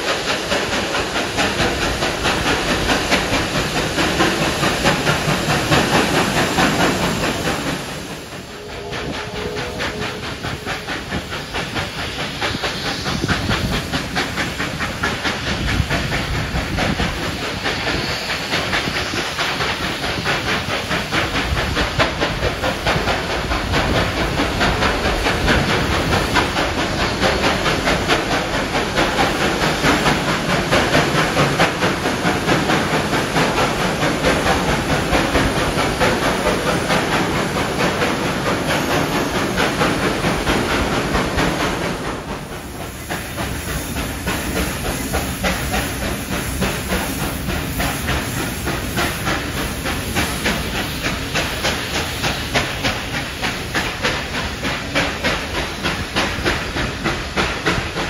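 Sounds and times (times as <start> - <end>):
steam hiss: 0.0 - 58.0
steam locomotive exhaust beats: 0.0 - 58.0.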